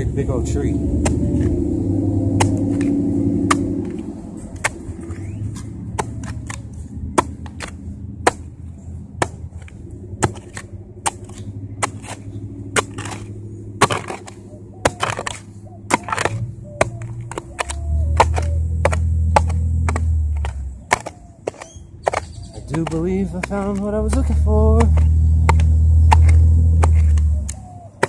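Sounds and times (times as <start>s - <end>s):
steady low hum: 0.0s - 28.0s
digging tool chopping into soil: 1.0s - 1.6s, 2.2s - 8.6s, 9.2s - 28.0s.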